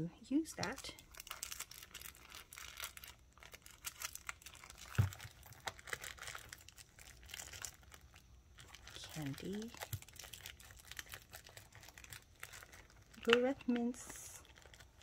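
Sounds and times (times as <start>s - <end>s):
plastic wrapper crinkling: 0.3s - 15.0s
small items rustling: 0.3s - 15.0s.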